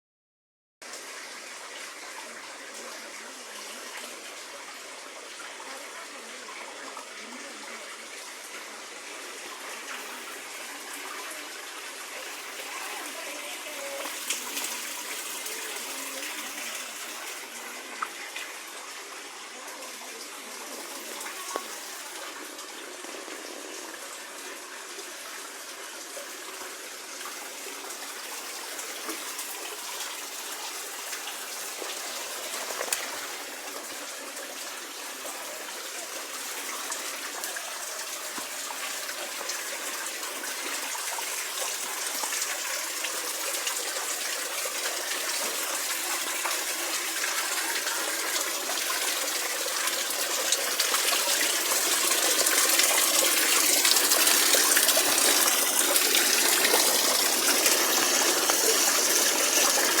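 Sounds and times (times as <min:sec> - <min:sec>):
spring water flowing and splashing: 0:00.8 - 1:00.0.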